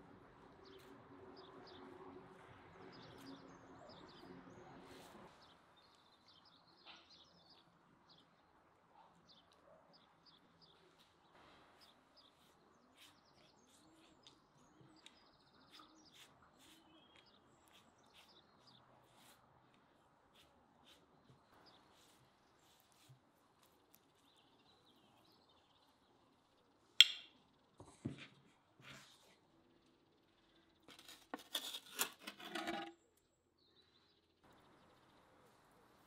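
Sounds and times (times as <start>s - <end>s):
small birds chirping: 0.0s - 31.5s, 33.0s - 36.0s.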